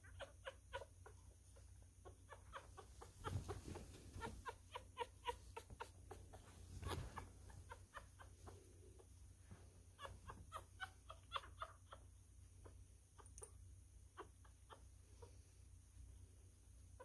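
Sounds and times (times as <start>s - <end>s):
puppy squeaking: 0.0s - 9.1s, 9.9s - 15.4s.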